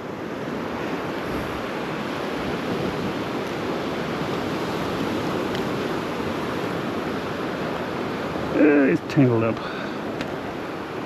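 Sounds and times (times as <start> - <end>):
ocean waves breaking on beach: 0.0 - 11.0.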